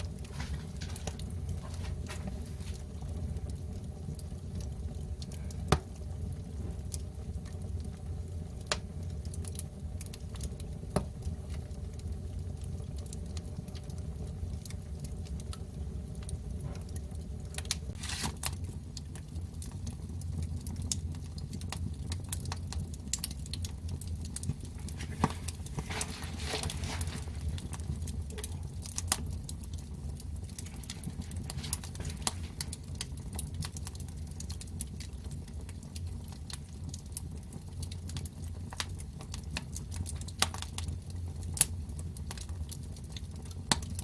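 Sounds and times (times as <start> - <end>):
fire low rumble: 0.0 - 44.0
wood fire crackling and popping: 0.0 - 44.0.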